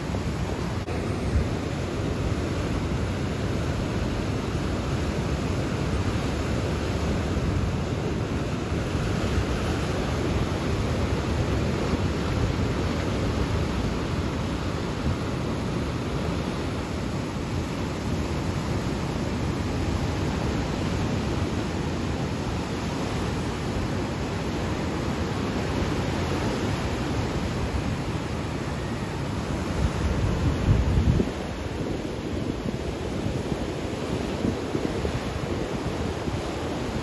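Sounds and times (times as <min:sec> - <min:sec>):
ocean surf washing over rocks: 0:00.0 - 0:37.0.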